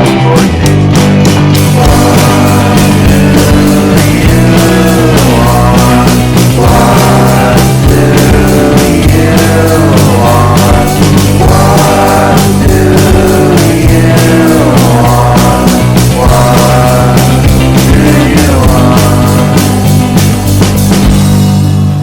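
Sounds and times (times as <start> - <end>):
rock music with falling pitch slides: 0.0 - 22.0.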